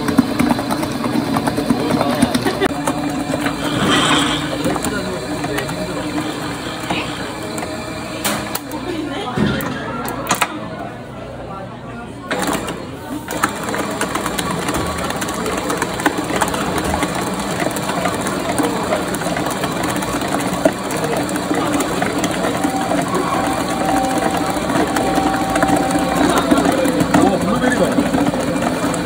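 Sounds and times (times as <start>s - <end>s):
stand mixer running: 0.0s - 11.3s, 12.3s - 29.0s.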